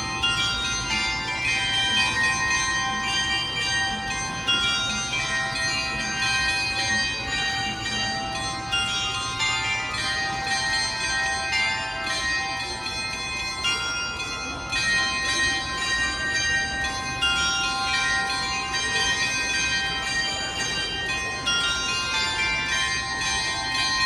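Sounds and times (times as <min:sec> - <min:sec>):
tuned bells playing a melody: 0:00.0 - 0:24.0.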